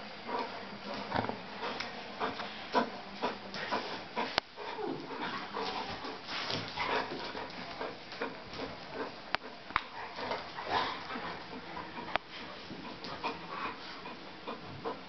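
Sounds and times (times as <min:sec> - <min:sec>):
dog panting and whimpering: 0:00.3 - 0:15.0.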